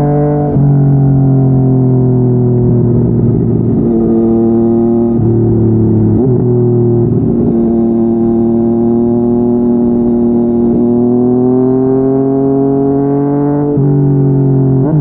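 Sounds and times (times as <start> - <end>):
motorcycle engine while riding: 0.0 - 15.0.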